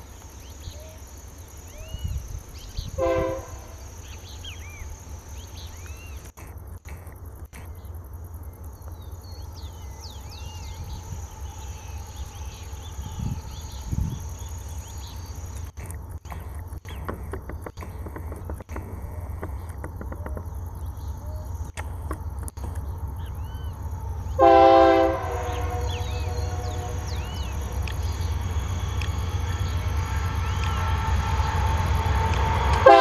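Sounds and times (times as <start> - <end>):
birds chirping: 0.0 - 33.0
locomotive rumble: 0.0 - 33.0.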